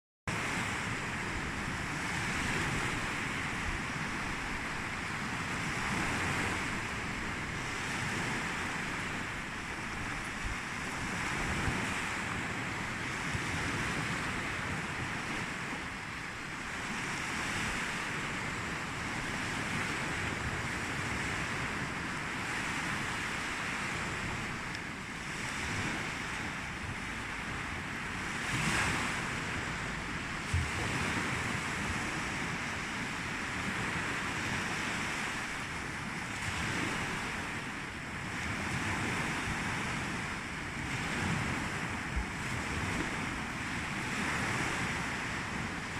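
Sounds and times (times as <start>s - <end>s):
sea waves washing in: 0.3s - 45.9s
wind rumble on microphone: 0.3s - 45.9s.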